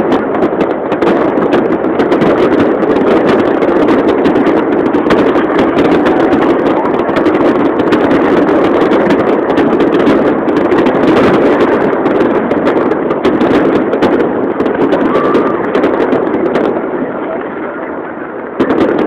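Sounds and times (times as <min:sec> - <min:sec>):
fireworks bursts rumble: 0:00.0 - 0:19.0
fireworks crackling pops: 0:00.0 - 0:19.0
crowd voices: 0:02.1 - 0:19.0.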